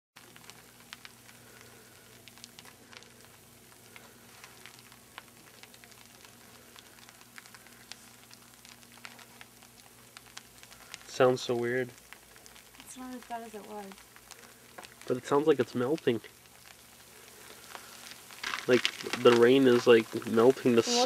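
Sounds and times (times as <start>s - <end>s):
freezing rain hissing and ticking: 0.2s - 21.0s.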